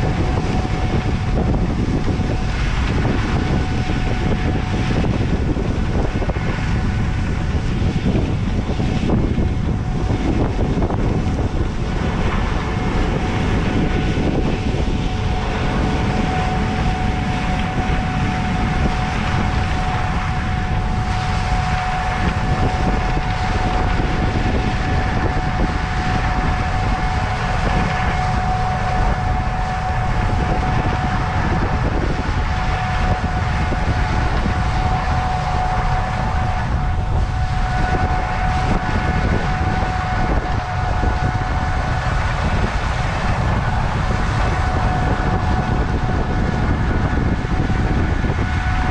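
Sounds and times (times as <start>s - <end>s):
combine harvester engine drone: 0.0s - 48.9s
high mechanical whine: 0.0s - 48.9s.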